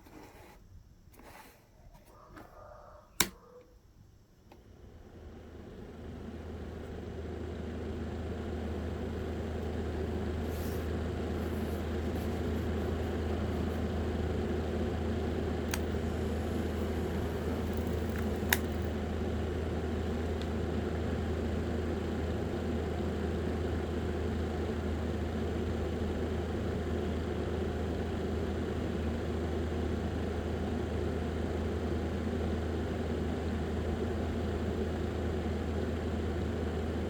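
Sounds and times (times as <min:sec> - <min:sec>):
small electric fan motor humming: 0:00.0 - 0:37.0.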